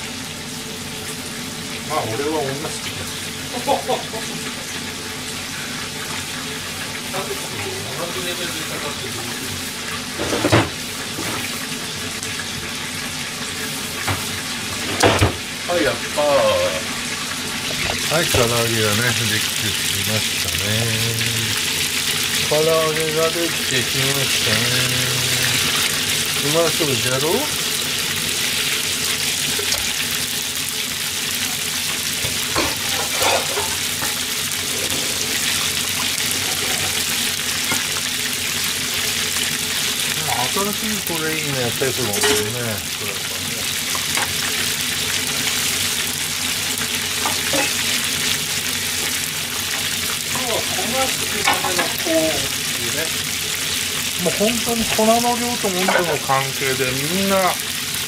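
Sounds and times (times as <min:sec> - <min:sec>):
deep-frying sizzle: 0:00.0 - 0:58.0.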